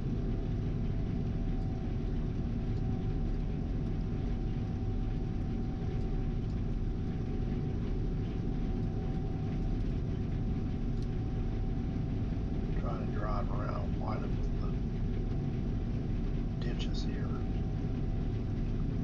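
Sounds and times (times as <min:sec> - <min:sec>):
combine harvester drone: 0:00.0 - 0:19.0
faint steady whine: 0:00.0 - 0:19.0.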